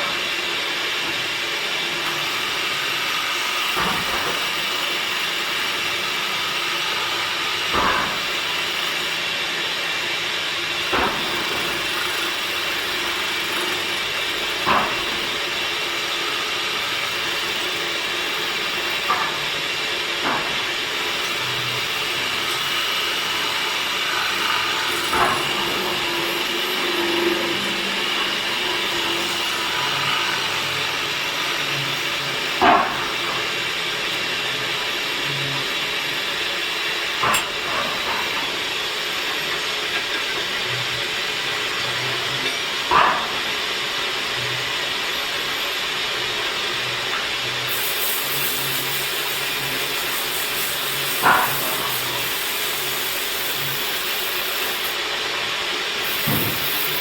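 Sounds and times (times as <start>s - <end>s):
woodworking machine hissing: 0.0s - 57.0s.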